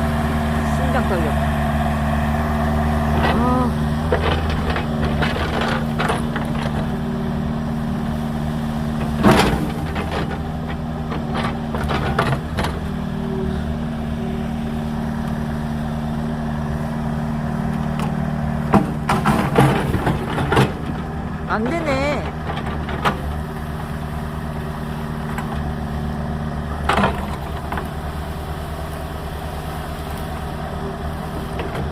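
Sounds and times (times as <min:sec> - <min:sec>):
excavator engine running: 0:00.0 - 0:31.9.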